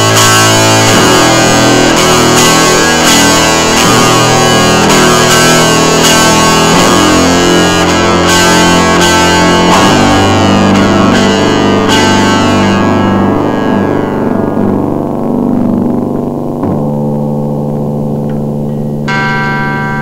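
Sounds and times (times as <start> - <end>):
distorted electric guitar music: 0.0 - 20.0.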